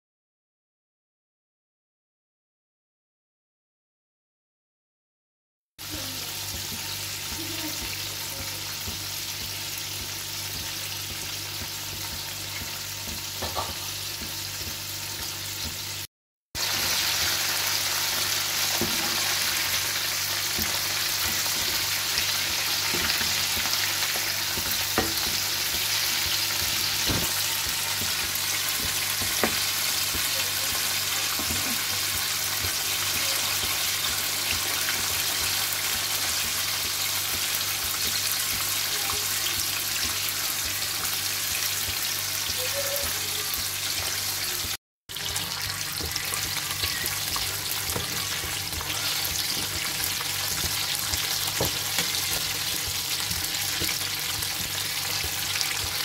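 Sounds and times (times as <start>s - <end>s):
chicken deep-frying in oil: 5.8s - 56.0s.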